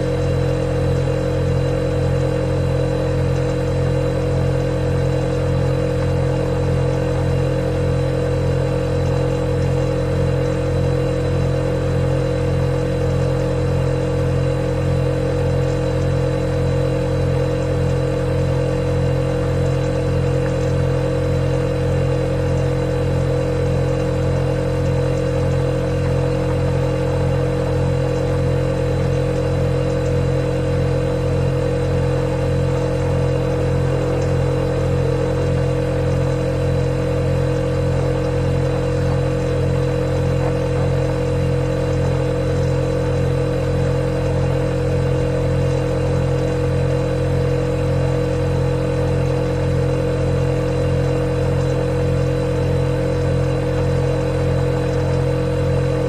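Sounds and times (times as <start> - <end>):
refrigerator compressor humming: 0.0 - 56.0.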